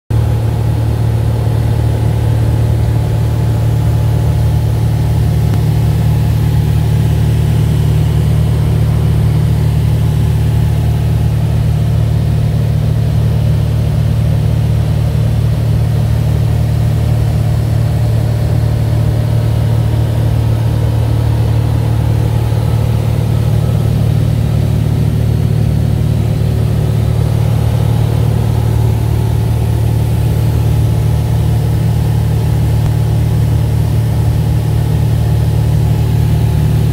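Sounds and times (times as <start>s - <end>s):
propeller airplane engine droning: 0.1s - 36.9s.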